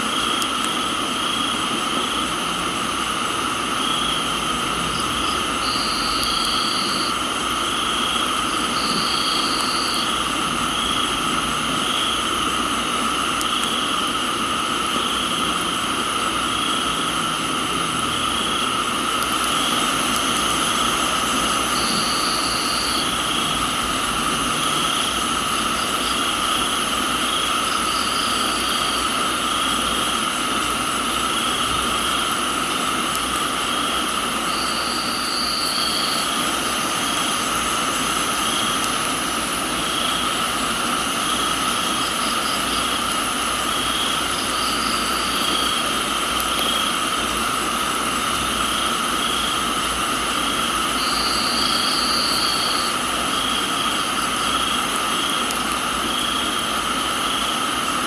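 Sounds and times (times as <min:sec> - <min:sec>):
insects trilling: 0:00.0 - 0:58.0
pulsing insect chirp: 0:00.0 - 0:58.0
rain hissing: 0:00.0 - 0:58.0.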